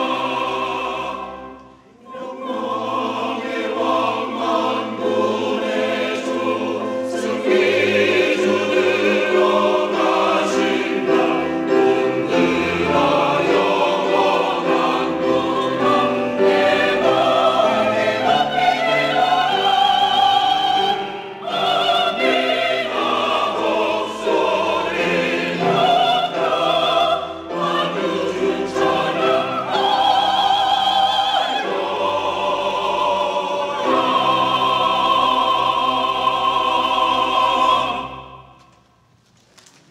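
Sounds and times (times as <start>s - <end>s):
choir singing in harmony: 0.0s - 38.8s.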